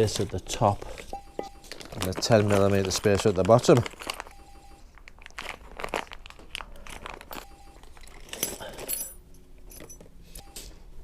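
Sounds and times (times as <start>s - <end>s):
crinkly rustling: 0.0s - 8.8s.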